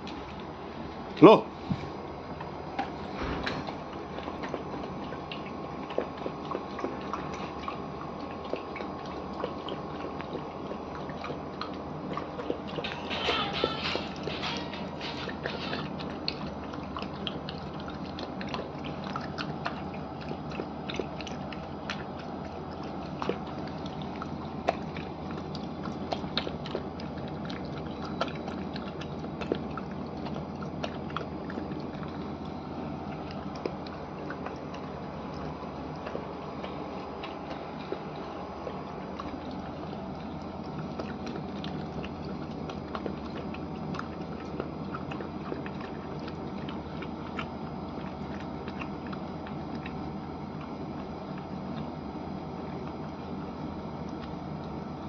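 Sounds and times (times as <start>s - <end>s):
puppy chewing wet food: 0.0s - 55.0s
steady low hum: 0.0s - 55.0s.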